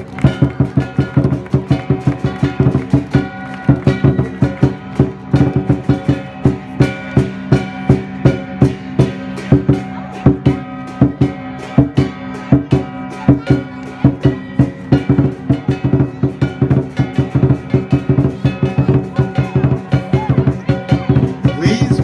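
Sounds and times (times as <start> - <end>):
music with steady drum beat: 0.0 - 22.0.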